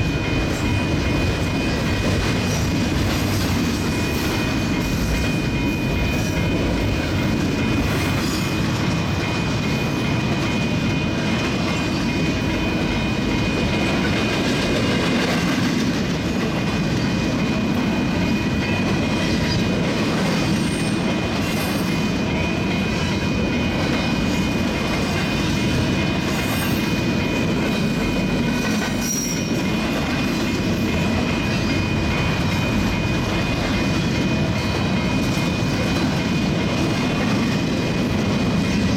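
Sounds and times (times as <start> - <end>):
clickety-clack of rail cars: 0.0 - 38.9
steel wheels rolling on rail: 0.0 - 38.9.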